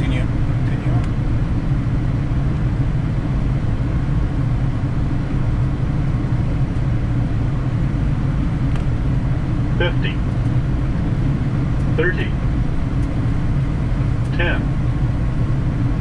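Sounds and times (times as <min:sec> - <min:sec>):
airflow over aircraft nose: 0:00.0 - 0:16.0
jet engine noise: 0:00.0 - 0:16.0.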